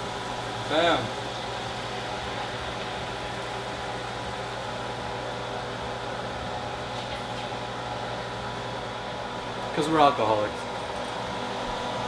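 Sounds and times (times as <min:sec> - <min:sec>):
kitchen fan humming: 0:00.0 - 0:12.0.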